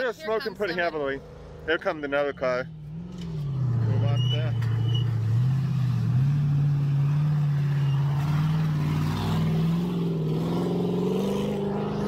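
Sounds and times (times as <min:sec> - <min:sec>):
race car engine revving: 0:01.1 - 0:12.0.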